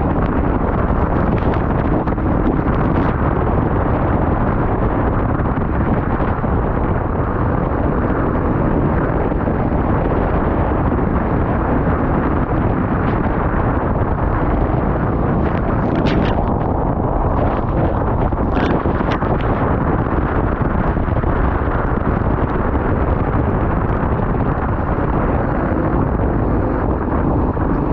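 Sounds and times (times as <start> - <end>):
vehicle rumbling: 0.0 - 27.9
wind buffeting microphone: 0.0 - 27.9.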